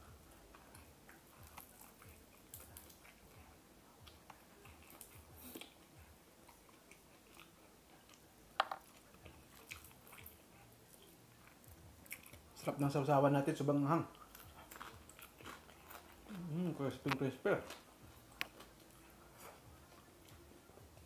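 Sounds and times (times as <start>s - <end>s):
chewing fried fish: 0.0s - 21.0s.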